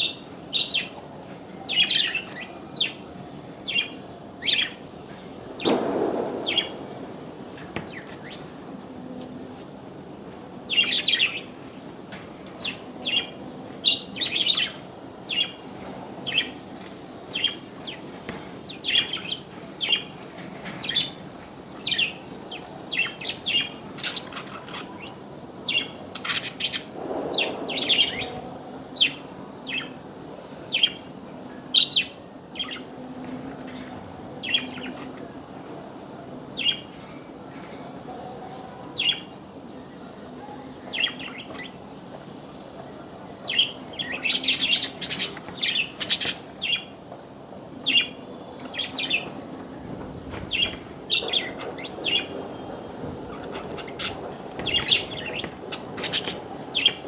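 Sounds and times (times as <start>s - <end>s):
small birds chirping: 0.0s - 30.0s, 30.6s - 33.0s, 33.6s - 57.0s.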